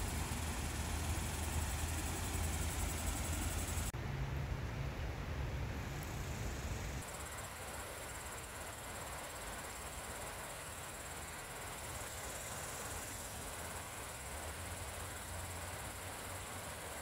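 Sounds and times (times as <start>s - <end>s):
high outdoor hiss: 0.0s - 17.0s.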